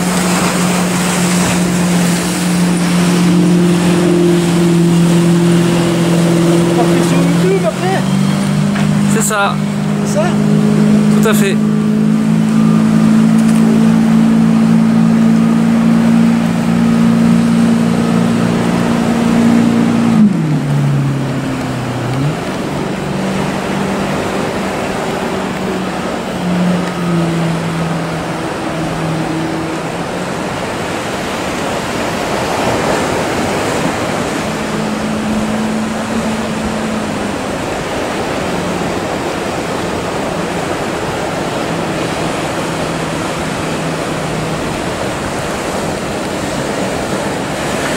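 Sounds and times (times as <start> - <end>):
motorboat engines running: 0.0 - 47.9
surf and rushing water: 0.0 - 47.9.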